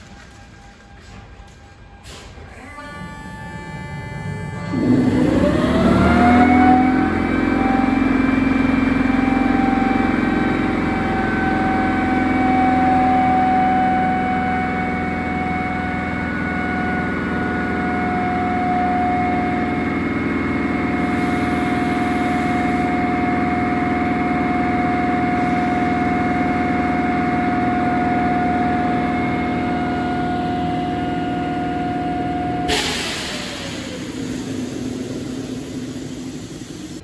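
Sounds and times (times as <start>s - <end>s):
air compressor whine: 0.0s - 37.0s
low mechanical hum: 0.0s - 37.0s.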